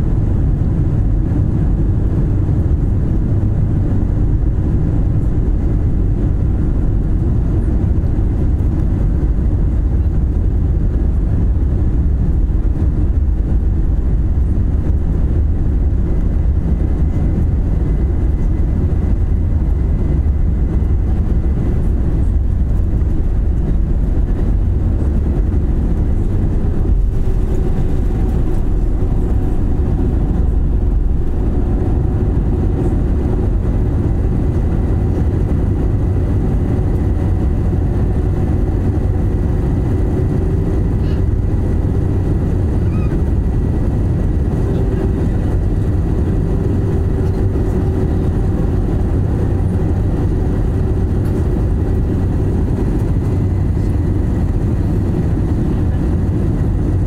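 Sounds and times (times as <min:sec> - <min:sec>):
faint engine whine: 0:00.0 - 0:57.0
jet engines rumbling: 0:00.0 - 0:57.0.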